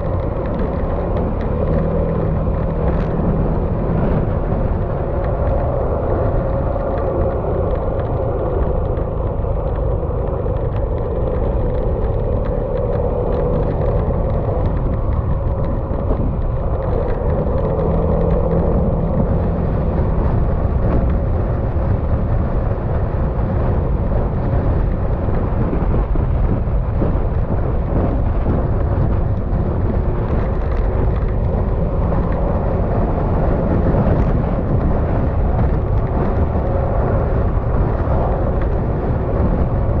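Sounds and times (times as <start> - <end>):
road noise: 0.0 - 40.0
wind noise: 0.0 - 40.0.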